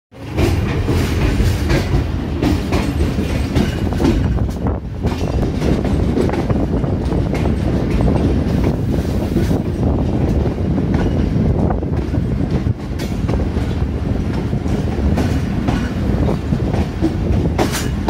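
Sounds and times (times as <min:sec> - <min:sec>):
train wheels rumbling: 0:00.1 - 0:18.0
wheels clacking over rail joints: 0:00.1 - 0:18.0.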